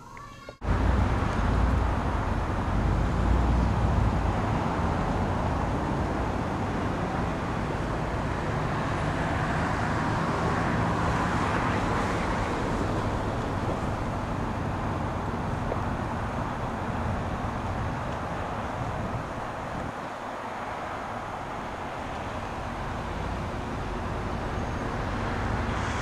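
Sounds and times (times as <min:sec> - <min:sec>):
low traffic rumble: 0:00.0 - 0:26.0
hiss of passing cars: 0:00.6 - 0:26.0.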